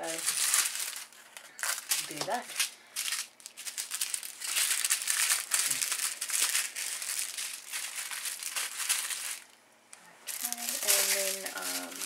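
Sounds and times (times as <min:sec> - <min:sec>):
plastic bags crinkling: 0:00.0 - 0:09.6, 0:10.2 - 0:12.0.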